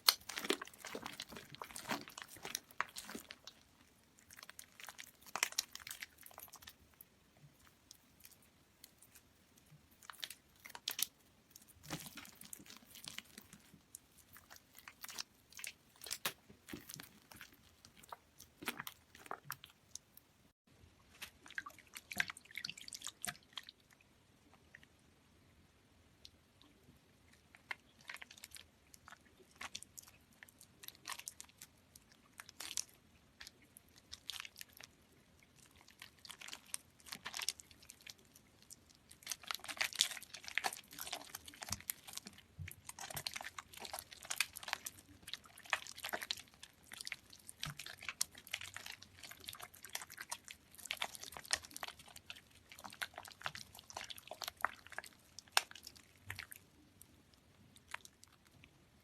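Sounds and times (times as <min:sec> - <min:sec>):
wet soap squishing and crunching: 0:00.0 - 0:25.1, 0:26.1 - 0:59.0.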